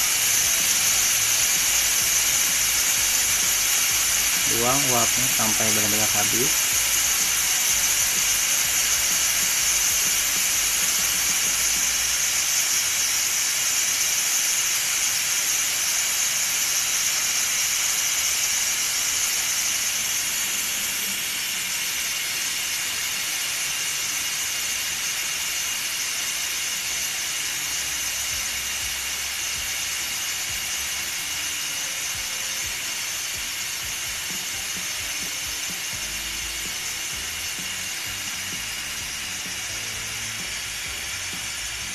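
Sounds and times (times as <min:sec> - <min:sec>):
steam hissing from pressure cooker: 0:00.0 - 0:41.9.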